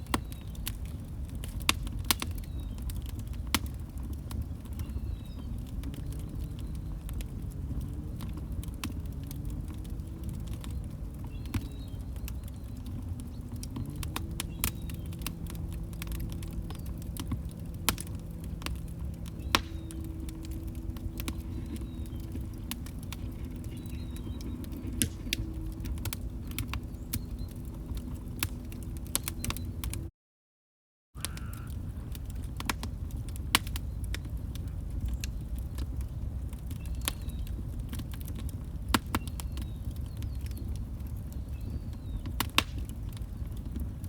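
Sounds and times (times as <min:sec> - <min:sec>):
log fire crackling: 0:00.0 - 0:30.1, 0:31.2 - 0:44.0.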